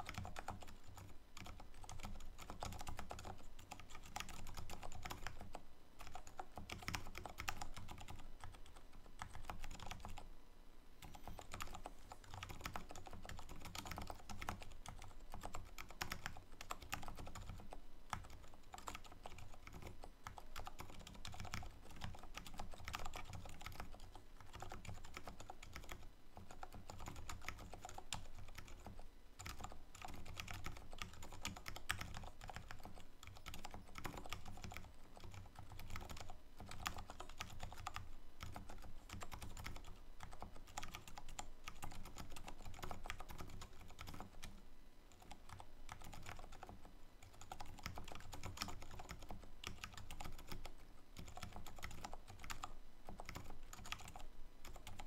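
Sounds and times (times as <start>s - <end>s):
fast keyboard typing: 0.0s - 10.3s, 11.0s - 55.0s.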